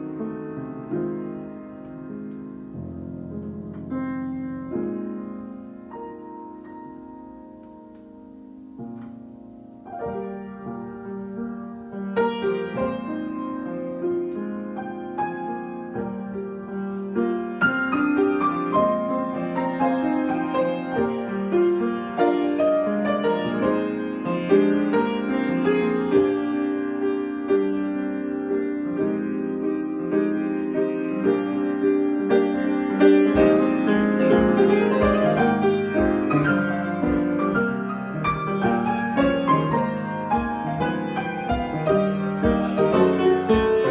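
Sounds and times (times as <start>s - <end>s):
solo piano improvisation: 0.0s - 43.9s.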